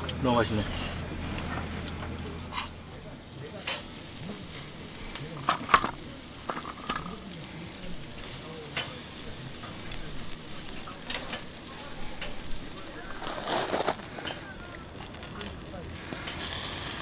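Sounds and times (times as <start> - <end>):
food sizzling: 1.0 - 17.0.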